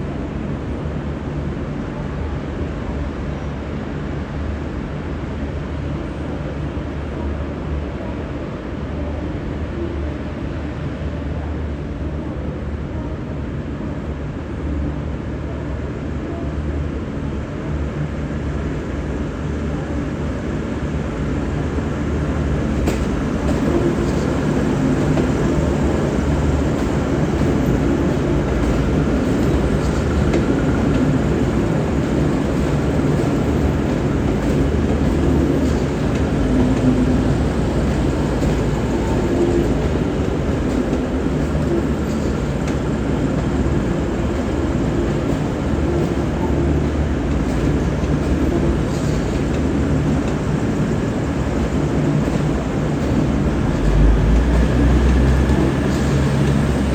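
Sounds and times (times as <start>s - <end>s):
diesel train engine rumble: 0.0s - 56.9s.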